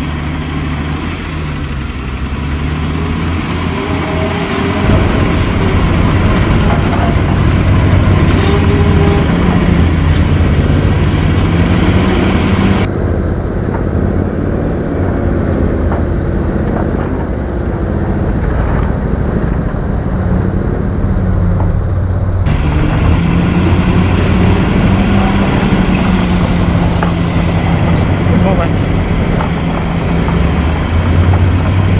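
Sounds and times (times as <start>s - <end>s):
heavy diesel engine revving: 0.0s - 31.9s.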